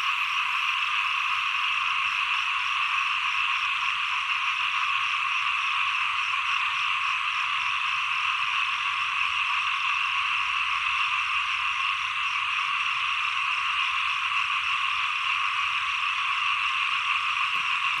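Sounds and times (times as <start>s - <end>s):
chorus of frogs calling: 0.0s - 18.0s.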